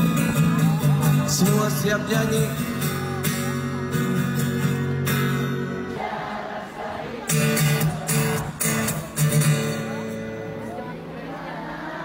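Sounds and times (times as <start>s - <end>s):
acoustic guitar strumming: 0.0s - 10.8s.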